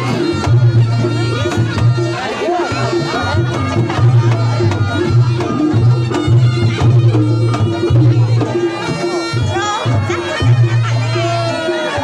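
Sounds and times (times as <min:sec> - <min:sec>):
hand drums beating: 0:00.0 - 0:12.0
reedy shawm melody: 0:00.0 - 0:12.0.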